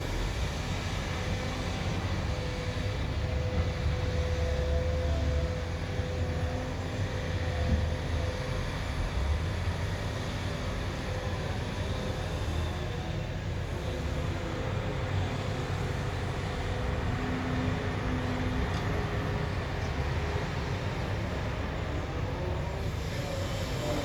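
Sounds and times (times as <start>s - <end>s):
heavy machinery engine rumble: 0.0s - 24.0s.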